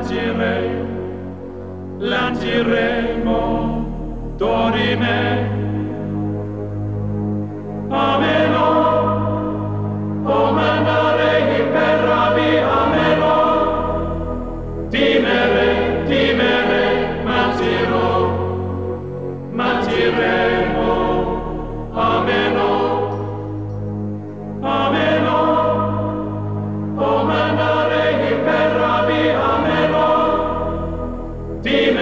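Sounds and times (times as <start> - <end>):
choir chanting: 0.0 - 32.0
low bass notes: 0.0 - 32.0.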